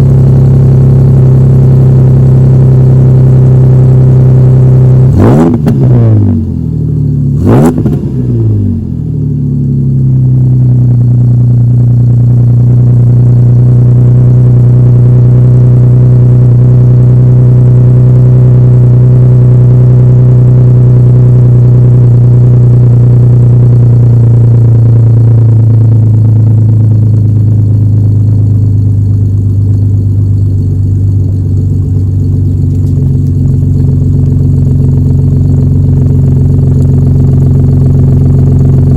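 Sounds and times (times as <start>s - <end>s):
truck engine revving and idling: 0.0s - 38.9s.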